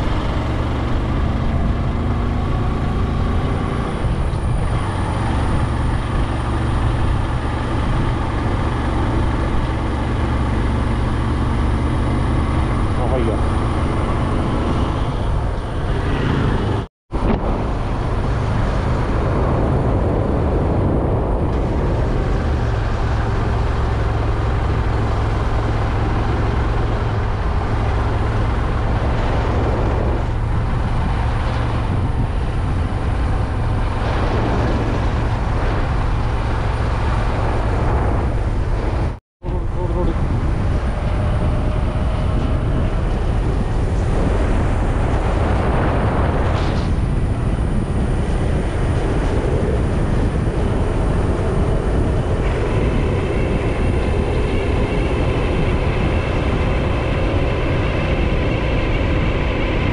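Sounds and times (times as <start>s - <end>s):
vehicle moving on wet road: 0.0s - 59.9s
wind rumble on microphone: 0.0s - 59.9s.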